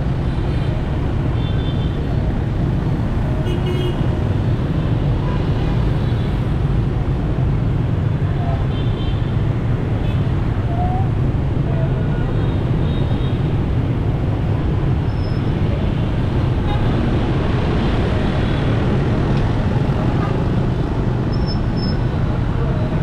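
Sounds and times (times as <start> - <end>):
hum of surrounding vehicles: 0.0 - 23.0.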